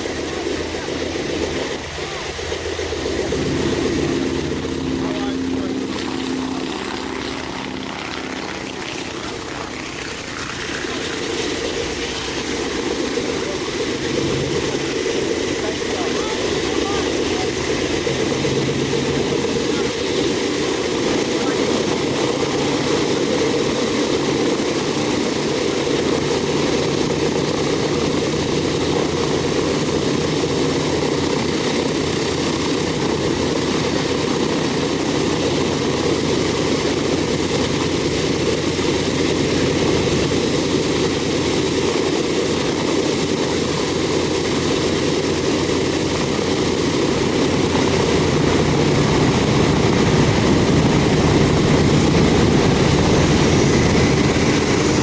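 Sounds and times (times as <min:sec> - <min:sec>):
radial piston engines running: 0:00.0 - 0:55.0.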